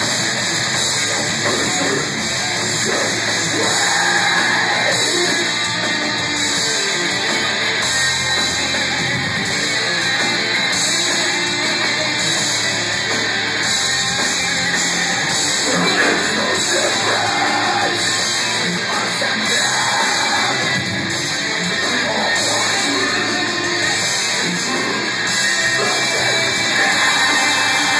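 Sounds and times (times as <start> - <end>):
distorted electric guitars: 0.0 - 27.9
drum kit: 0.0 - 27.9.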